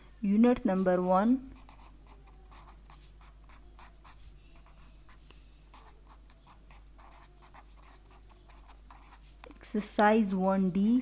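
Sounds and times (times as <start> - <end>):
pen scratching on paper: 1.5 - 10.8.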